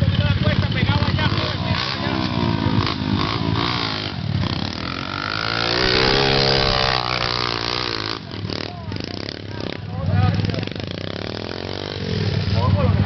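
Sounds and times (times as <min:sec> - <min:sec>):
pit bike revving: 0:00.0 - 0:13.0
small engines running: 0:00.0 - 0:13.0.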